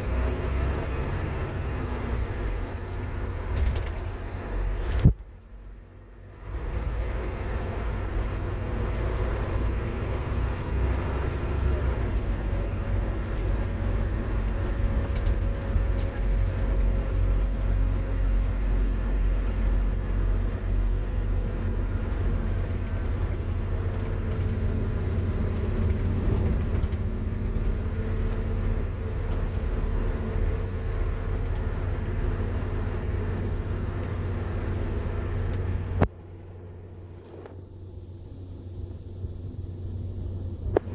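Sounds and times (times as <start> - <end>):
bus diesel engine rumble: 0.0 - 40.9.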